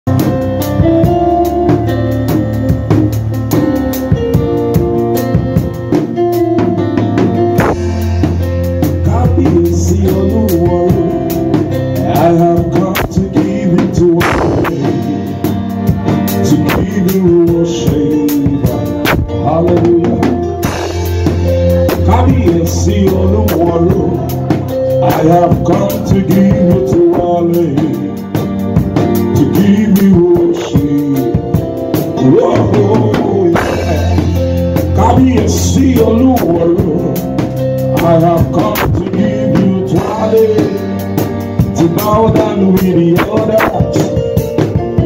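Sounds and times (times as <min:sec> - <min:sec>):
drum kit beat: 0:00.0 - 0:45.0
sustained keyboard chords: 0:00.0 - 0:45.0.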